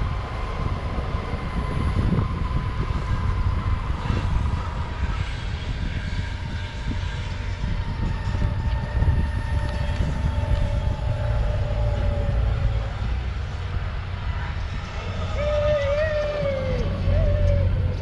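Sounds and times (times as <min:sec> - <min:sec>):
electric motor whine: 0:00.0 - 0:18.0
skateboard wheels rumbling on asphalt: 0:00.0 - 0:18.0
wind on microphone: 0:00.0 - 0:18.0.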